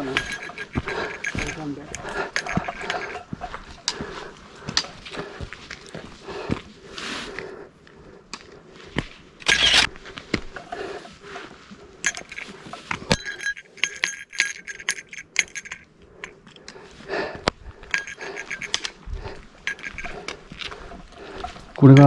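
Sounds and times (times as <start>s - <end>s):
metallic jingling and clinking: 0.0s - 5.9s, 9.4s - 17.0s, 17.6s - 22.0s.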